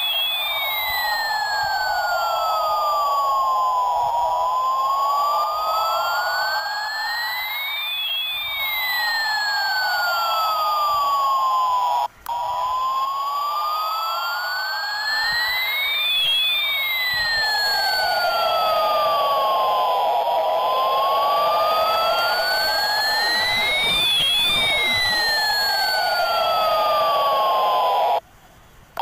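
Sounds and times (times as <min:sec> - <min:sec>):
electronic siren-like gliding tones: 0:00.0 - 0:28.2.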